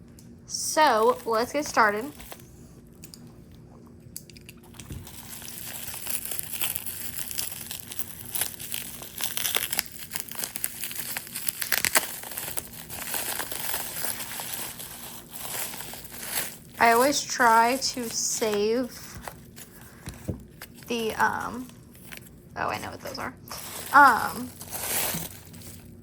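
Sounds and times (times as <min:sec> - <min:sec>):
packing material crinkling: 0:00.8 - 0:02.4, 0:04.6 - 0:26.0.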